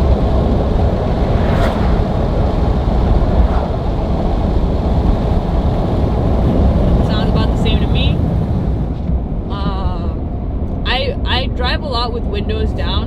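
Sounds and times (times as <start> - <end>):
wind and road roar in a cab: 0.0 - 13.0.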